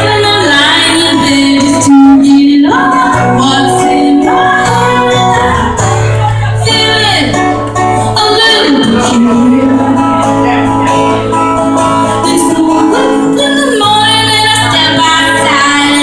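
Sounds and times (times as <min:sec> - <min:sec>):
woman singing: 0:00.0 - 0:10.5, 0:11.6 - 0:16.0
acoustic guitar: 0:00.0 - 0:16.0.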